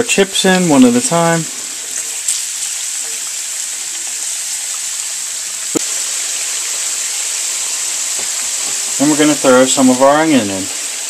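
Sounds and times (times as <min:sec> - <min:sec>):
chips sizzling in hot oil: 0:00.0 - 0:11.0.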